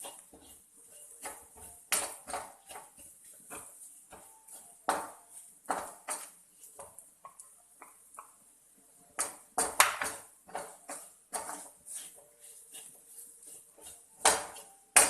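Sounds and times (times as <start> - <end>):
utensil scraping in a pan: 0.0 - 15.0.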